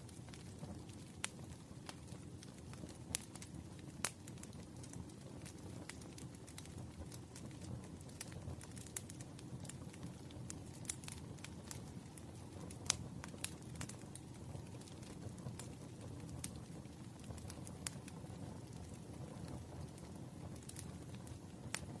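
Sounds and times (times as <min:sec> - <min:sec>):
firewood crackling and popping: 0:00.0 - 0:22.0
low rumble of fire: 0:00.0 - 0:22.0.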